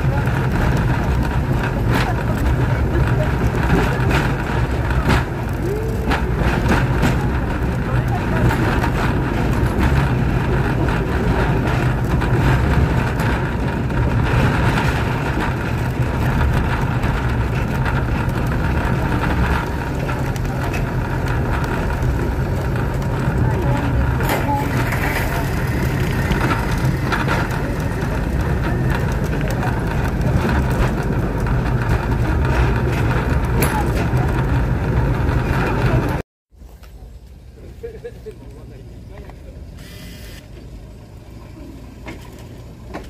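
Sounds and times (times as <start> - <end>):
train engine and wheels rumbling: 0.0 - 43.0.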